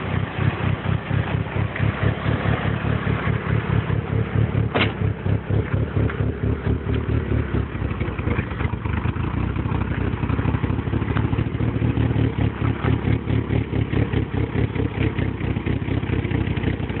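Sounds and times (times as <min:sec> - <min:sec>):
car exhaust choppy idle: 0:00.0 - 0:17.0.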